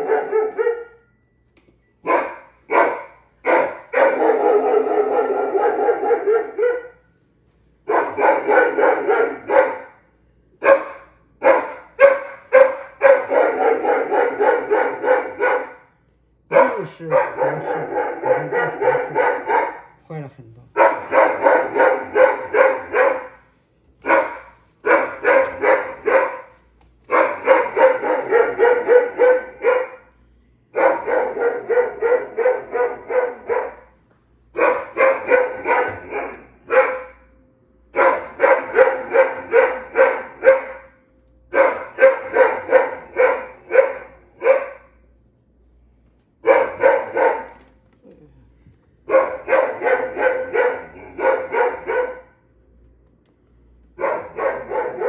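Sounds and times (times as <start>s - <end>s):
dog barking: 0.0s - 1.1s, 2.0s - 7.1s, 7.9s - 15.9s, 16.5s - 20.0s, 20.7s - 30.1s, 30.7s - 37.3s, 38.0s - 44.9s, 46.4s - 47.6s, 49.1s - 52.5s, 54.0s - 55.0s.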